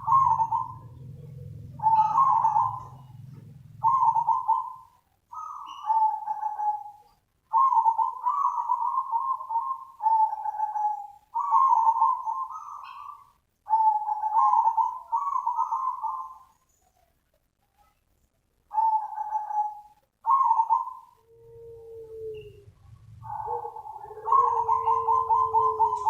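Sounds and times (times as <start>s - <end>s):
dove cooing: 0.0s - 17.1s, 18.7s - 26.0s.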